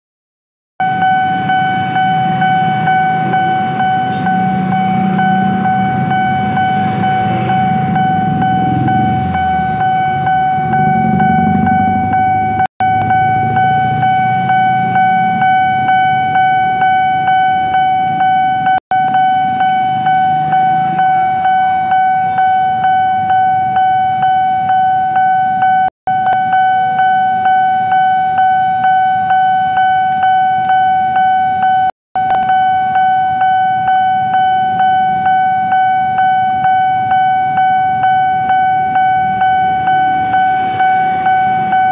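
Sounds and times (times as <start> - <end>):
level-crossing warning bell ringing: 0.8 - 41.9
motorcycle and car engines: 0.8 - 41.9.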